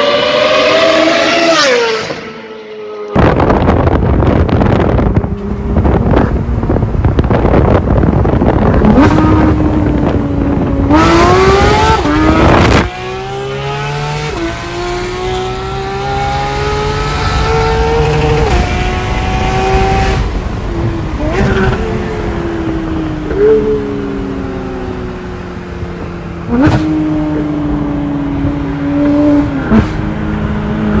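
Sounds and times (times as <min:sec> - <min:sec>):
sports car accelerating: 0:00.0 - 0:31.0
wind and road rush: 0:00.0 - 0:31.0.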